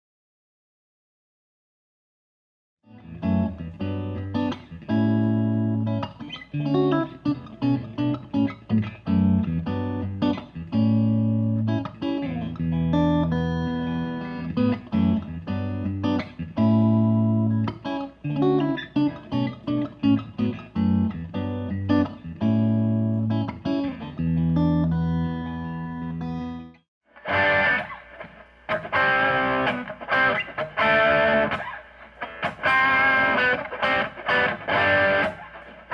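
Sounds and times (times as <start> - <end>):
electric guitar riffs and chords: 2.9 - 35.9.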